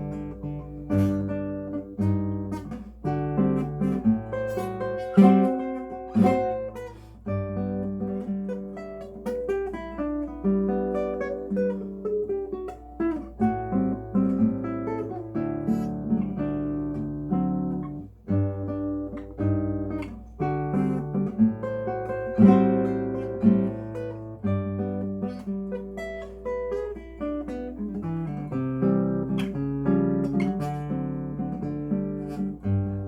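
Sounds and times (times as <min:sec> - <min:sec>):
solo classical guitar: 0:00.0 - 0:33.0.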